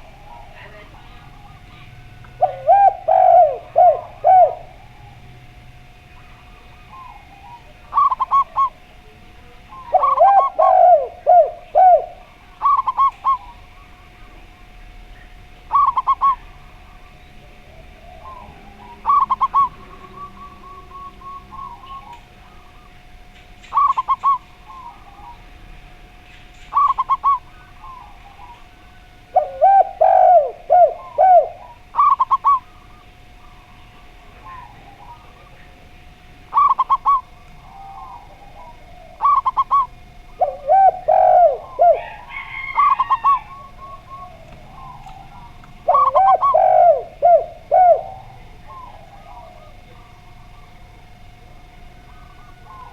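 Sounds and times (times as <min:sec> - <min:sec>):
dove low coo notes: 0:00.0 - 0:52.9
dove trilled coo: 0:00.0 - 0:52.9.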